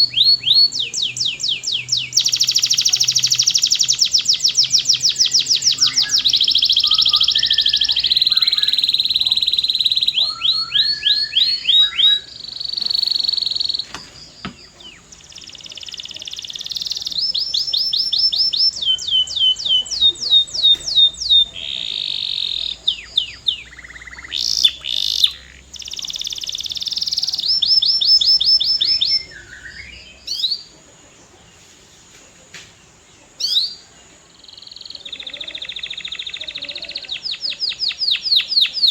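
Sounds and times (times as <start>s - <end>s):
canary singing trills: 0.0s - 31.6s, 33.0s - 38.9s.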